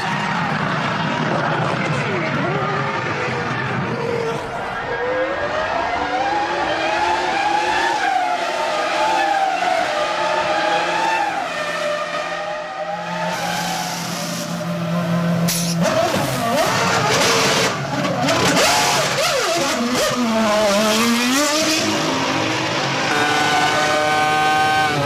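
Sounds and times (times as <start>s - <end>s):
race car engine at high revs: 0.0s - 25.0s.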